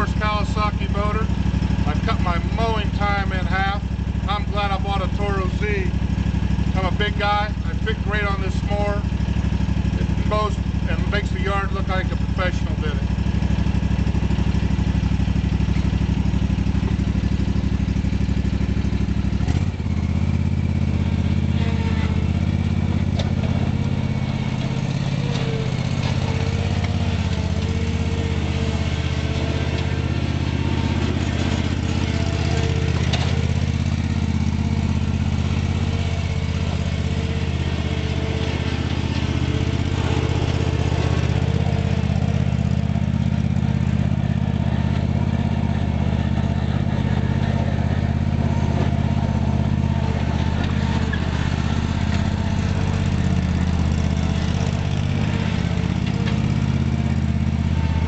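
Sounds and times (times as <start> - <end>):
mower engine running: 0.0 - 58.0.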